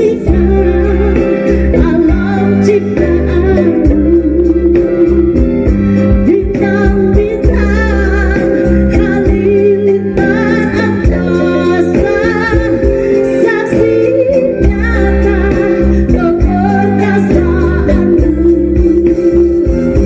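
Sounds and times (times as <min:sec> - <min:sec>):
voices singing with vibrato: 0:00.0 - 0:19.6
low instrumental accompaniment: 0:00.0 - 0:20.0.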